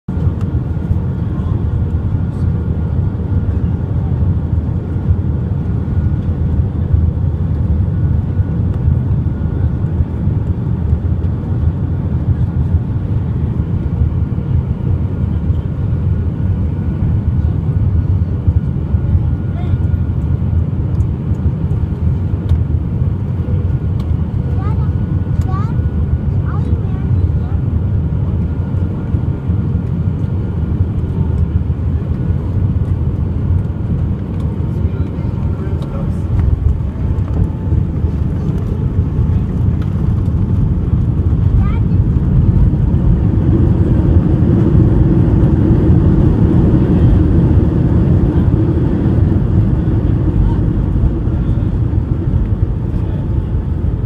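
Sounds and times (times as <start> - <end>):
airliner cabin rumble: 0.1 - 54.0.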